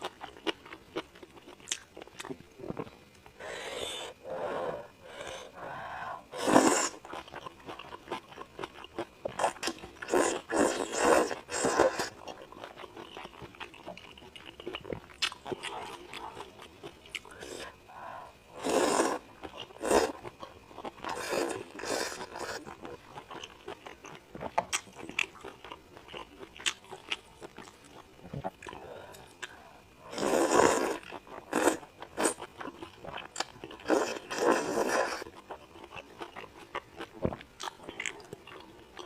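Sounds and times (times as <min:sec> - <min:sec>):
chewing and crunching: 0:00.0 - 0:03.2, 0:07.0 - 0:17.6, 0:19.2 - 0:29.9, 0:30.7 - 0:39.0.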